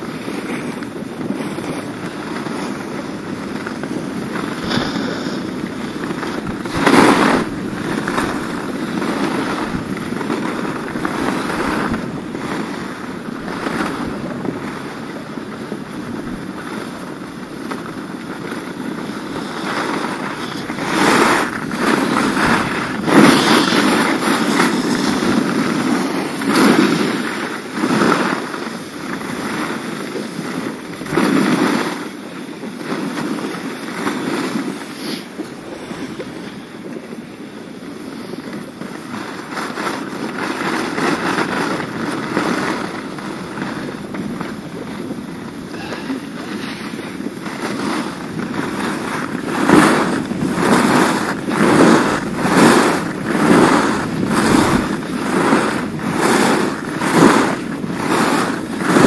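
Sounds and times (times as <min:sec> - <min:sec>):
skis sliding on snow: 0:00.0 - 0:59.0
wind on microphone: 0:00.0 - 0:59.0.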